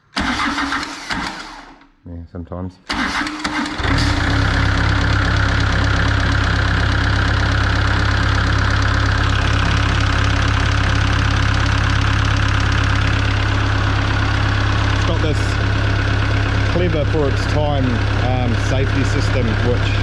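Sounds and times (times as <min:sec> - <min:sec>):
diesel engine idling: 0:03.7 - 0:20.0.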